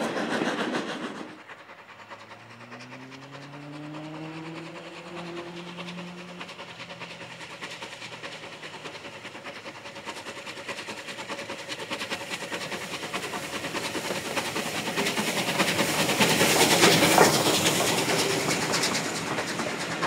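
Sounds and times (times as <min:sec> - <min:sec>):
coaches running over rails: 0:00.0 - 0:20.0
steam locomotive exhaust beats: 0:00.0 - 0:20.0.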